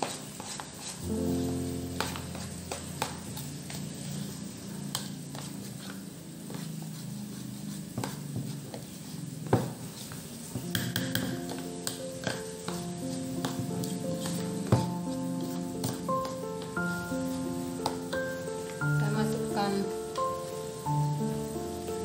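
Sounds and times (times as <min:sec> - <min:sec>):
batter stirred in plastic bowl: 0:00.0 - 0:21.3.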